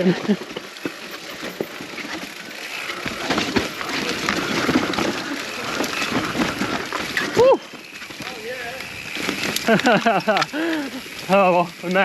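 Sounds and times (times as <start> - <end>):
bike rattling over roots: 0.0 - 12.0
tyres on muddy ground: 0.0 - 12.0.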